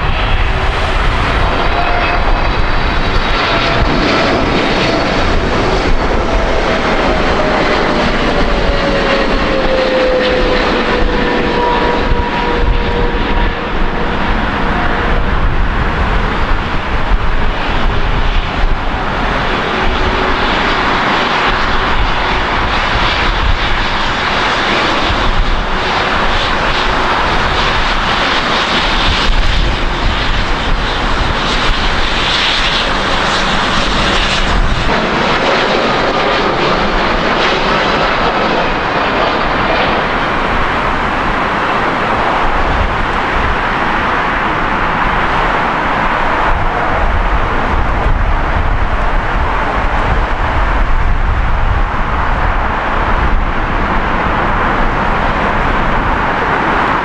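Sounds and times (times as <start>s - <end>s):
jet engine roar: 0.0s - 57.0s
jet engine whine falling in pitch: 0.0s - 57.0s.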